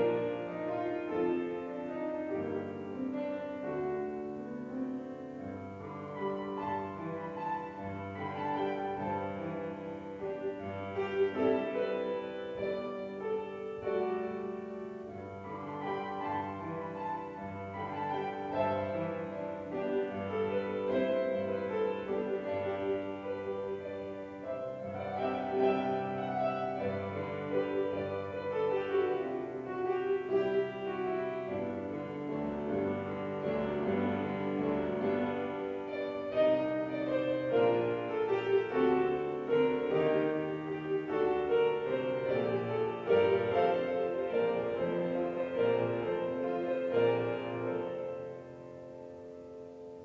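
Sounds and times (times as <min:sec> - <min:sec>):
grand piano playing chords: 0:00.0 - 0:50.0.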